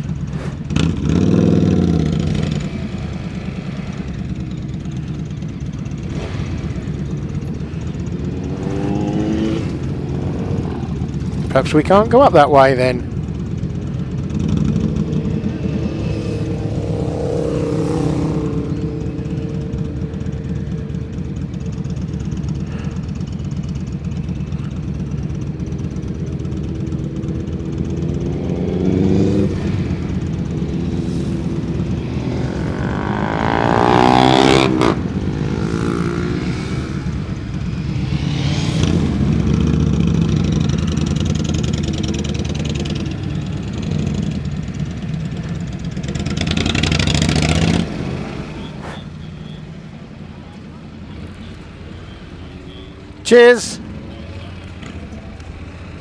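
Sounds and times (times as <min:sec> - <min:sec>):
motorcycle revving hard: 0:00.0 - 0:05.0, 0:05.8 - 0:11.5, 0:13.2 - 0:24.4, 0:25.0 - 0:48.8
motorcycle engines droning: 0:00.0 - 0:56.0.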